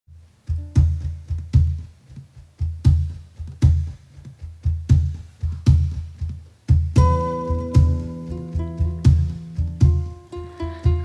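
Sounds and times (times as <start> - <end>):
bass drum thumps: 0.5 - 11.0.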